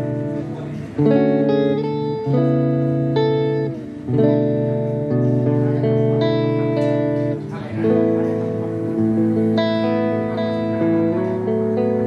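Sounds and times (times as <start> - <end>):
clean electric guitar chords: 0.0 - 12.0.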